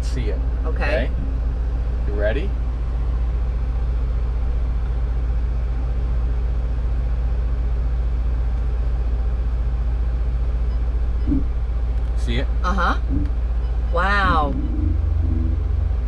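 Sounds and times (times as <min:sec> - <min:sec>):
van engine drone: 0:00.0 - 0:16.0.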